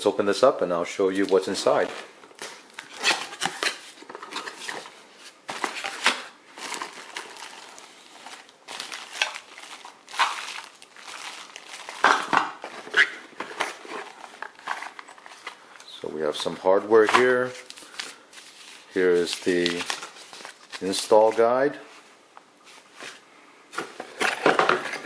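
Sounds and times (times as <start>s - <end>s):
plastic bags rustling and crinkling: 1.1s - 23.3s.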